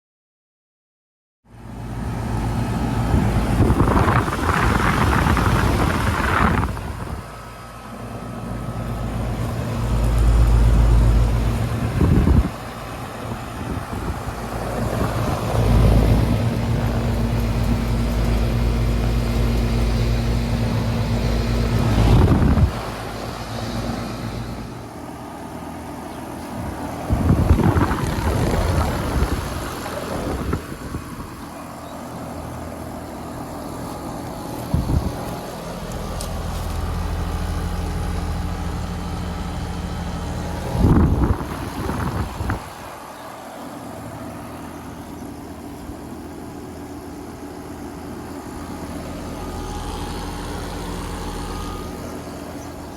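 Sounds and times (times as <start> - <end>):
fan noise: 1.5 - 52.9
air conditioner compressor hum: 2.0 - 52.9.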